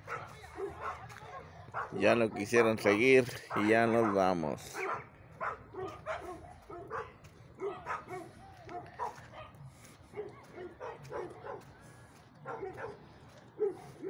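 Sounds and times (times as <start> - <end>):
dogs barking and yipping: 0.0 - 14.0.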